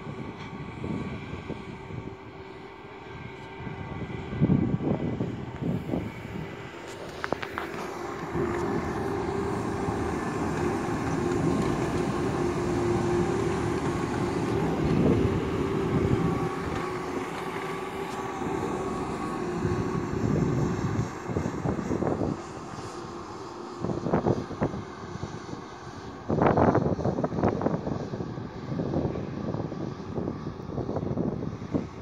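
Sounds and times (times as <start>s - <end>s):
diesel railcar passing: 0.0s - 32.0s.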